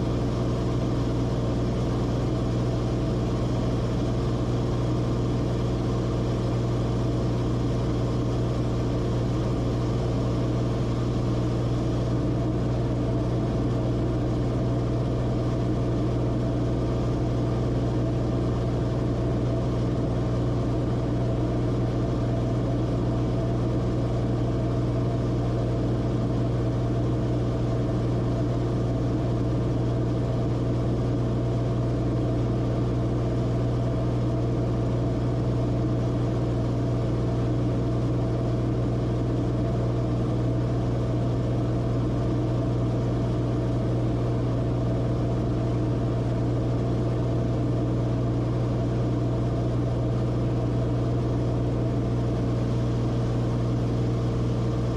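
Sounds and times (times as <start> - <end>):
aircraft engine and propeller drone: 0.0 - 54.9.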